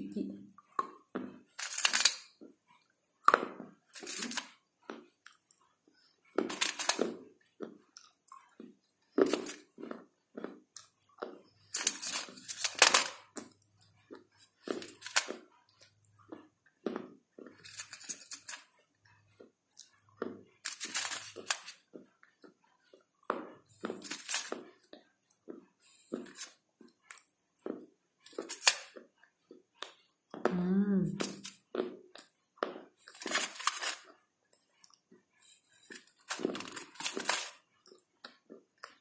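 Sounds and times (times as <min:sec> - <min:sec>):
chewing and crunching: 0:00.5 - 0:30.5, 0:31.2 - 0:39.0.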